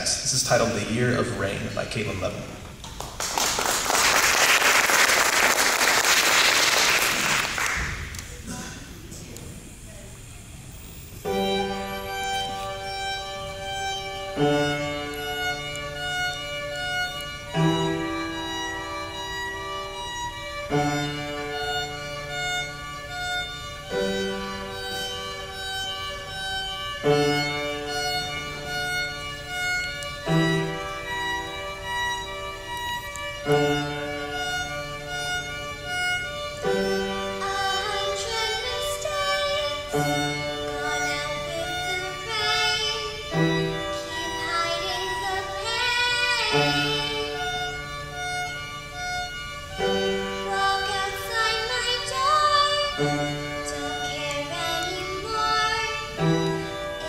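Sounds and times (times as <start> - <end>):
piano chords: 11.2 - 57.0
violin slow melody: 11.2 - 57.0.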